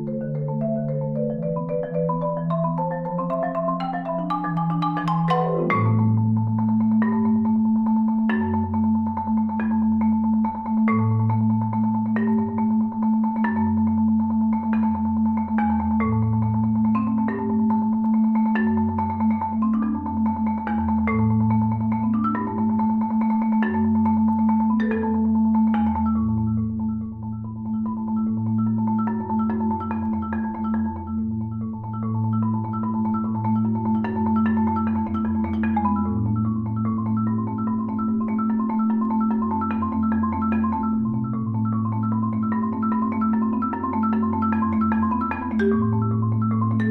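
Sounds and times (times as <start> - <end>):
solo marimba playing: 0.0 - 46.9.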